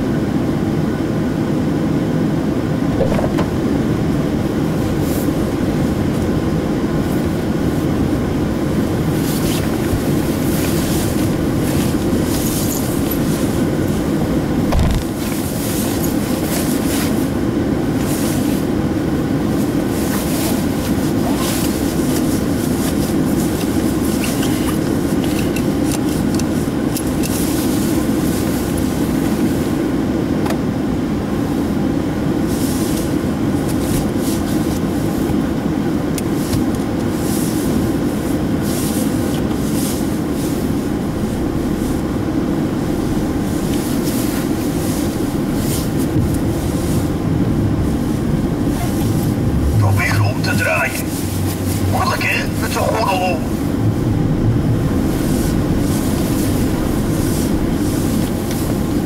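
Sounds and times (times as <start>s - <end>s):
car interior road and engine drone: 0.0s - 59.0s.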